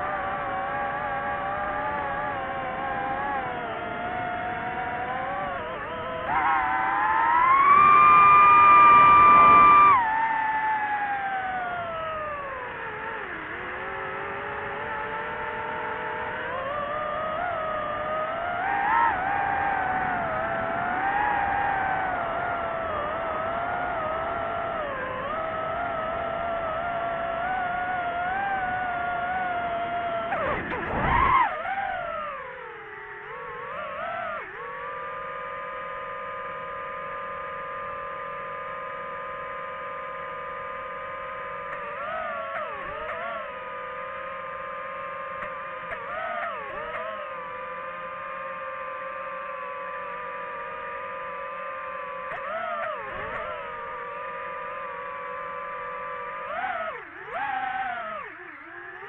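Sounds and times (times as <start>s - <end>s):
drone propellers whining: 0.0s - 59.0s.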